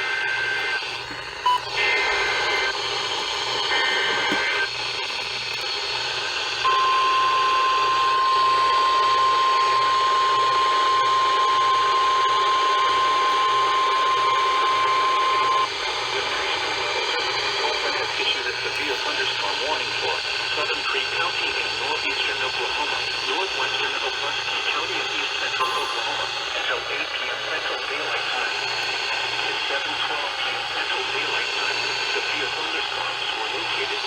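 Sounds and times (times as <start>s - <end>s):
radio static hiss: 0.0s - 34.0s
steady warning alarm tone: 0.0s - 34.0s.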